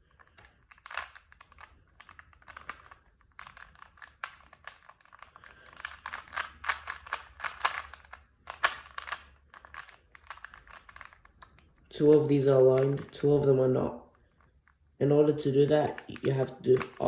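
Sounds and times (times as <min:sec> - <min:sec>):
plastic puzzle cube clicking: 0:00.0 - 0:14.8, 0:15.9 - 0:17.0.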